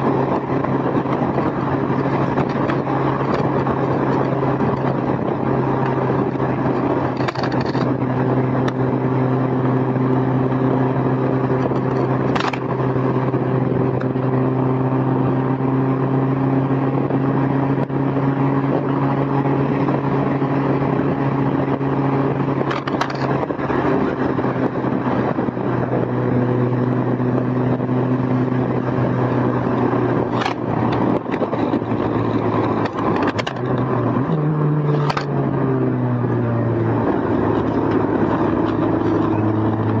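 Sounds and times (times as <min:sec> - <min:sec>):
car engine pulling: 0:00.0 - 0:40.0
road noise: 0:00.0 - 0:40.0
wind noise: 0:00.0 - 0:40.0.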